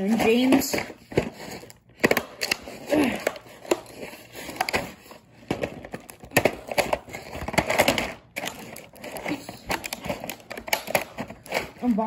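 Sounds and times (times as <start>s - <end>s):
packaging crinkling and snapping: 0.0s - 12.0s.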